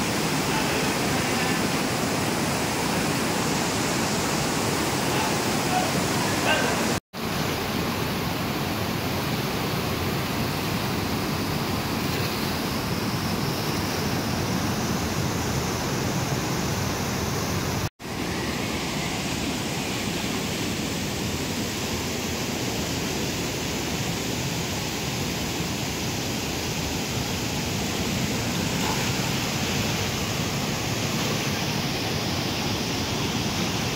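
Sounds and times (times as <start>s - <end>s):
flood water rushing: 0.0s - 33.9s.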